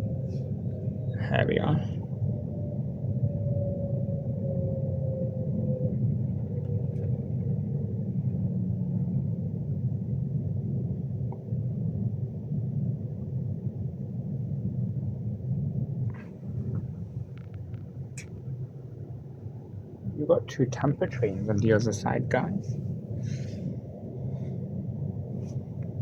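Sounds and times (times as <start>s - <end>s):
faint falling whine: 0.0s - 26.0s.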